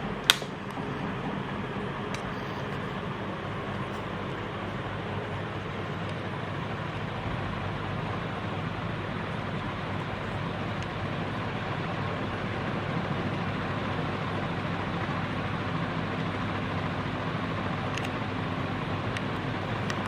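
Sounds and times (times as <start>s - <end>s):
ceiling fan motor hum: 0.0s - 20.0s.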